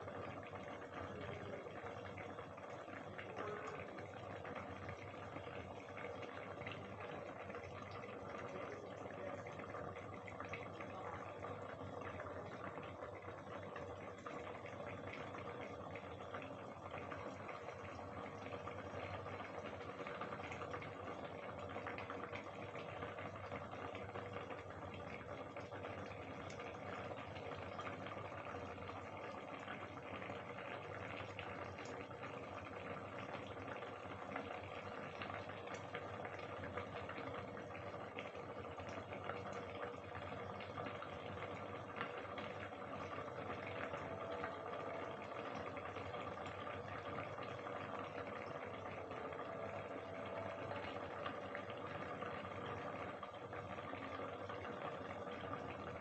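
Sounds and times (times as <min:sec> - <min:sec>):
curry bubbling in a pot: 0:00.0 - 0:56.0.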